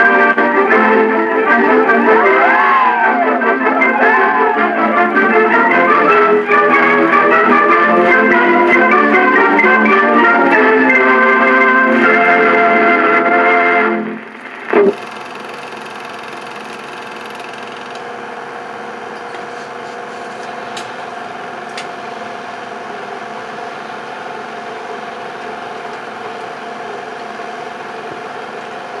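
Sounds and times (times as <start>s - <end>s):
film projector whirring: 0.0s - 29.0s.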